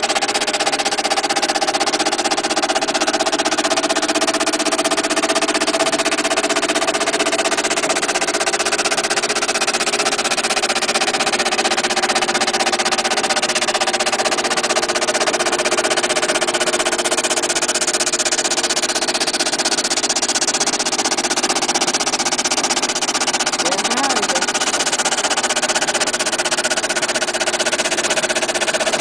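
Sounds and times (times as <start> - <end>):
power sander running: 0.0 - 29.0.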